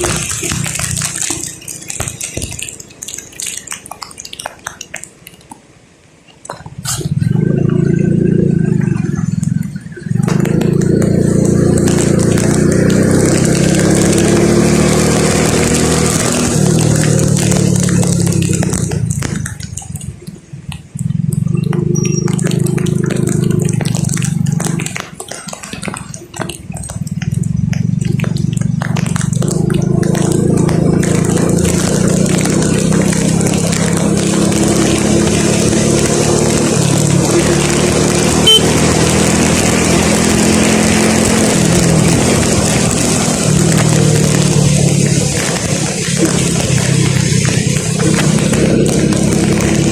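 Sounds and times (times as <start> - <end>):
raindrops tapping on a car: 0.0 - 6.8, 8.7 - 49.9
vehicle engine and road noise: 0.0 - 49.9.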